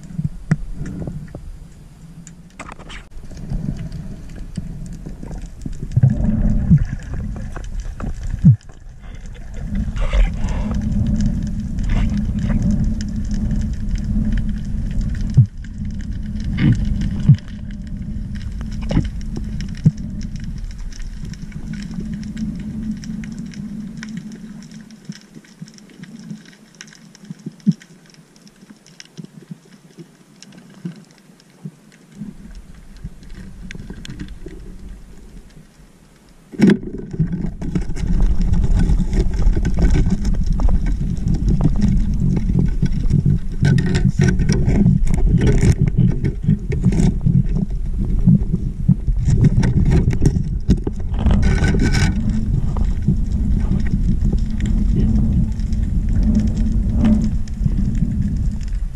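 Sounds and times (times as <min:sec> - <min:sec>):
crackling clicks: 0:00.0 - 0:58.9
underwater rumble: 0:00.0 - 0:58.9.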